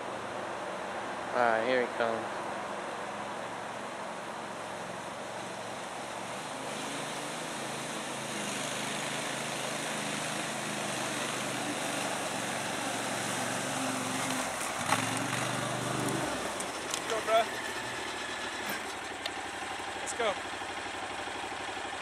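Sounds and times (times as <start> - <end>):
vehicle engine running: 3.8 - 22.0.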